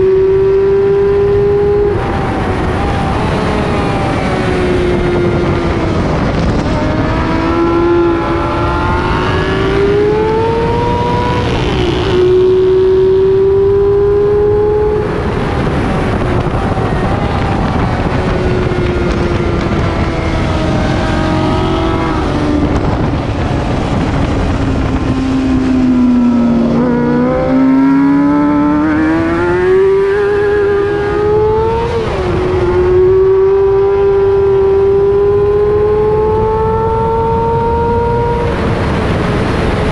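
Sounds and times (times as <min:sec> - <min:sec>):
racing motorcycle engine accelerating: 0:00.0 - 0:39.9
rush of wind noise: 0:00.0 - 0:39.9.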